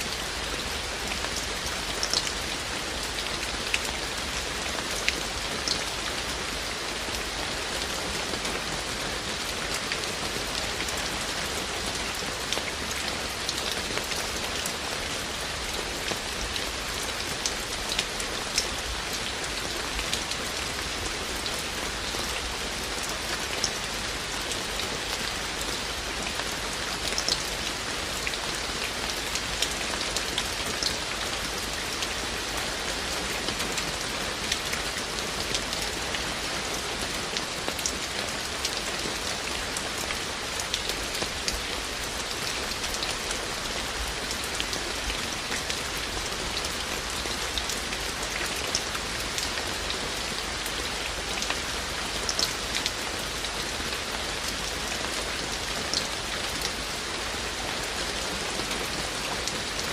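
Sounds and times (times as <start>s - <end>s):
raindrops ticking on surfaces: 0.0s - 59.9s
steady rain hiss: 0.0s - 59.9s.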